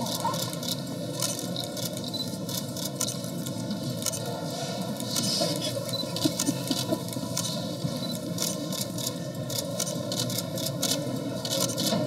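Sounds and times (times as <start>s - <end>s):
crowd hubbub: 0.0s - 12.0s.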